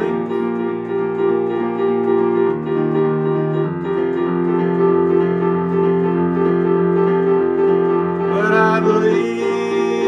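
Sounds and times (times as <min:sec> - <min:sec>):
sustained piano chords: 0:00.0 - 0:10.0.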